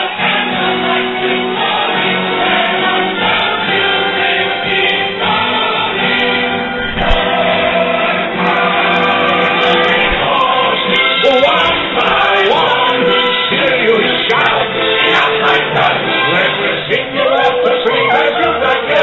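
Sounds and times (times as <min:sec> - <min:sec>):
song with group vocals and band: 0:00.0 - 0:19.0.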